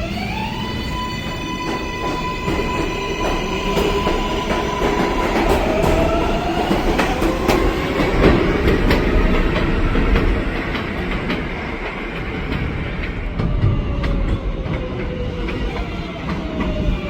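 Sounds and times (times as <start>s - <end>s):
train wheels clacking over rail joints: 1.3s - 17.0s.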